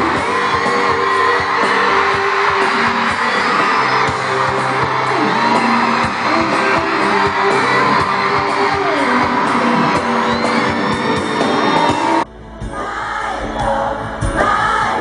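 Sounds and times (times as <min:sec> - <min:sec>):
steady drum beat: 0:00.0 - 0:12.2
crowd whooping and cheering: 0:00.0 - 0:15.0
live pop music with singing: 0:00.0 - 0:15.0.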